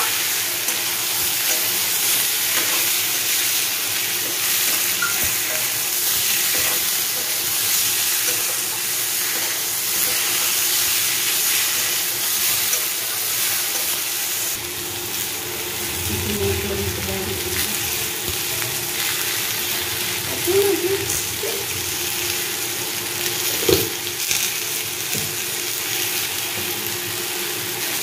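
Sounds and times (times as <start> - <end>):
potatoes sizzling in oil: 0.0 - 28.0.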